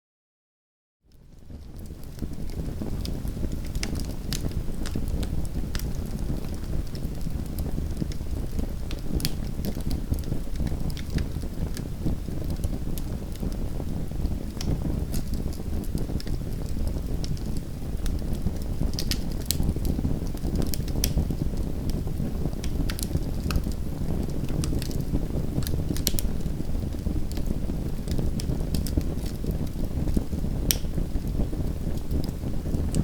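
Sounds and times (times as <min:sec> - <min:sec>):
fire crackling and popping: 0:01.1 - 0:33.0
fire rumbling: 0:01.1 - 0:33.0.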